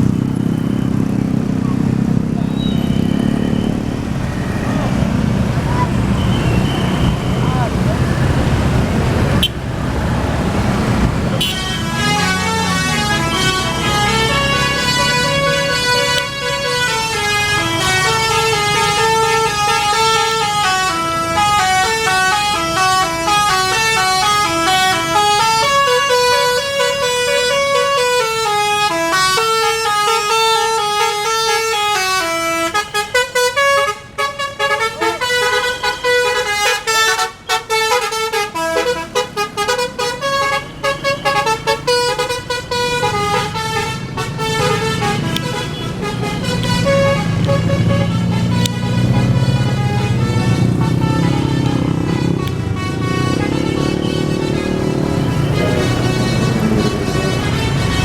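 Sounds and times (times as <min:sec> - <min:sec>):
multi-tone bus horn melody: 0:09.3 - 0:09.8, 0:11.2 - 0:58.0.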